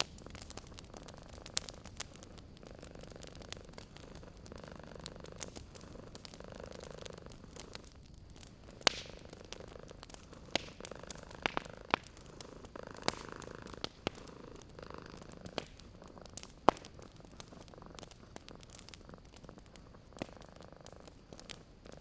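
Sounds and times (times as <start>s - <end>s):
wood fire popping and crackling: 0.0s - 22.0s
cat purring: 0.1s - 22.0s.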